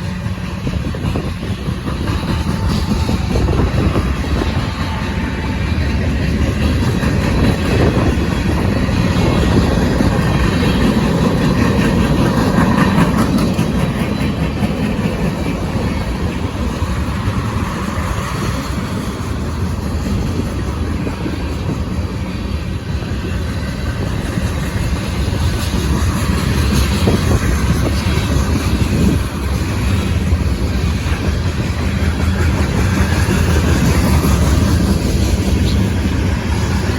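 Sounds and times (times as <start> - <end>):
train wheels rattling on rails: 0.0 - 36.9.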